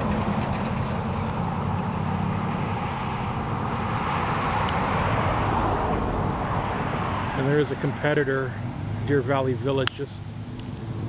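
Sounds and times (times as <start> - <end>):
low engine hum: 0.0 - 11.0
road traffic passing: 0.0 - 11.0.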